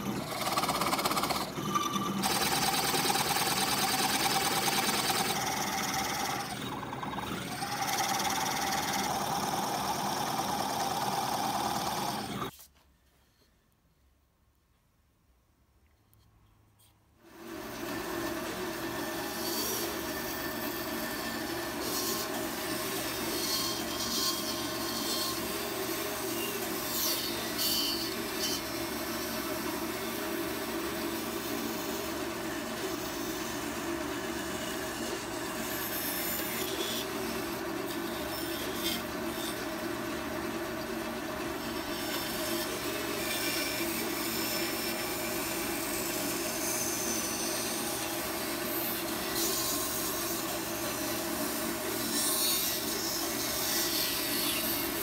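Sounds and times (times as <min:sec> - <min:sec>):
bandsaw cutting wood: 0:00.0 - 0:12.5, 0:17.4 - 0:55.0
bandsaw motor hum: 0:00.0 - 0:12.5, 0:17.3 - 0:55.0.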